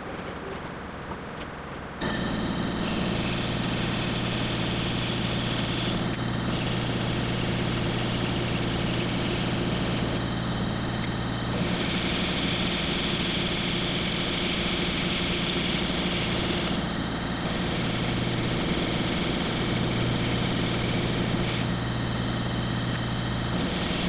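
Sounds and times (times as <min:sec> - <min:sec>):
milling machine motor hum: 0:02.0 - 0:24.0.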